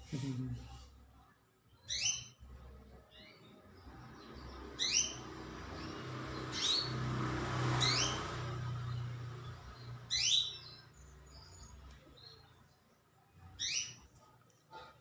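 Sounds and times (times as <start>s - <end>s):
canary chirping: 1.6s - 15.0s.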